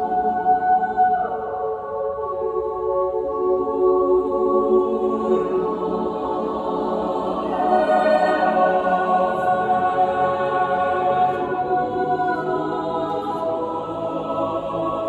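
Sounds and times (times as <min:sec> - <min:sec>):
a cappella choir singing: 0:00.0 - 0:15.0.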